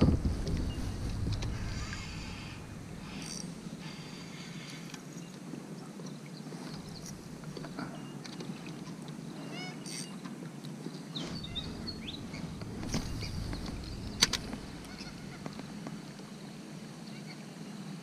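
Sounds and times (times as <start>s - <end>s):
steady low background noise: 0.0s - 18.0s
birds chirping: 0.4s - 10.2s, 10.8s - 17.4s.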